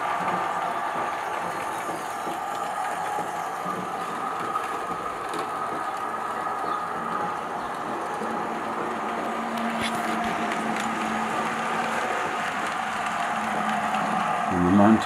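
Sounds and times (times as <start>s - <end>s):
wheels rattling over rails: 0.0s - 15.0s.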